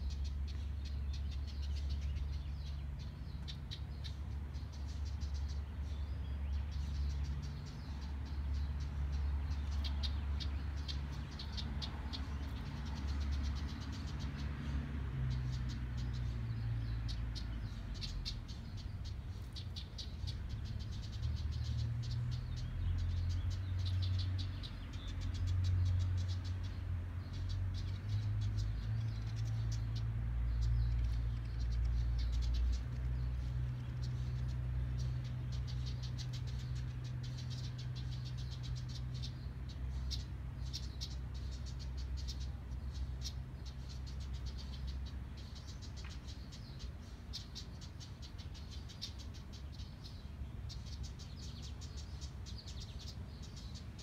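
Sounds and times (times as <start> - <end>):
wren chattering call: 0.0 - 54.0.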